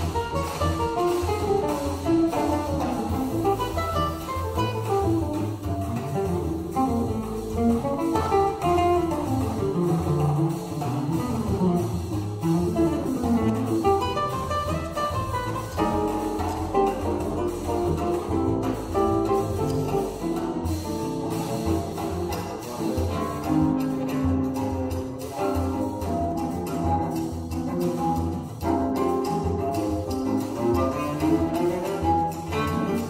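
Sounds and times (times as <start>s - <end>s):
acoustic guitar: 0.0s - 33.0s
cello: 0.0s - 33.0s
drum kit: 0.0s - 33.0s.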